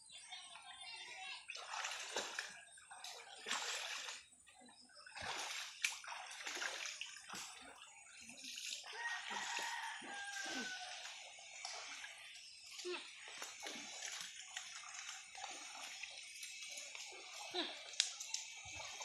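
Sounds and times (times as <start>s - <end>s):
water sloshing and splashing: 1.1s - 19.0s.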